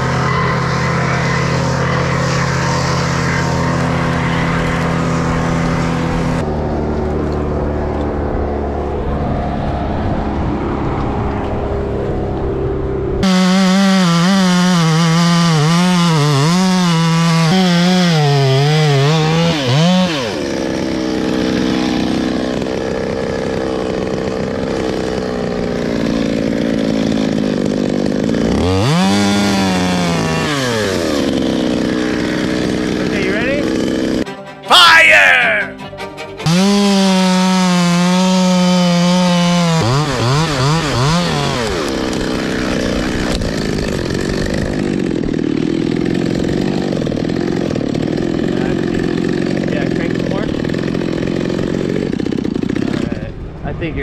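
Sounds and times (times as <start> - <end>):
chainsaw cutting wood: 0.0 - 8.1, 13.2 - 53.5.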